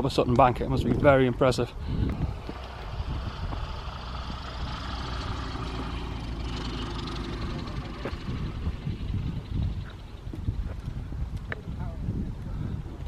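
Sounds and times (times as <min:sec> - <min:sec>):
engine running steadily: 0:01.6 - 0:13.0.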